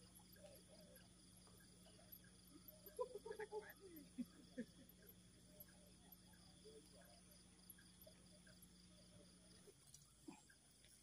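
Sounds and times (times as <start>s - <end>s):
insects chirping: 0.0s - 11.0s
low steady hum: 0.0s - 11.0s.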